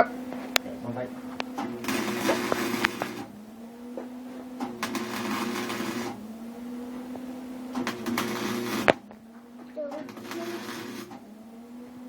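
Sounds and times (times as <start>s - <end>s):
welder buzzing hum: 0.0s - 12.0s
welding arc crackle: 1.2s - 12.0s.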